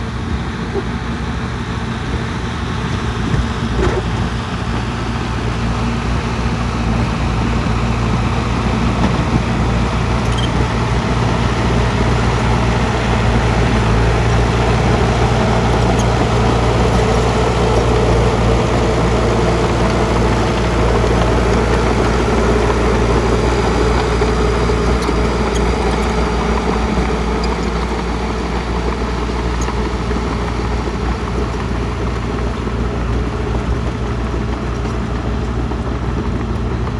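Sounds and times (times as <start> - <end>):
low engine rumble: 0.0 - 36.9.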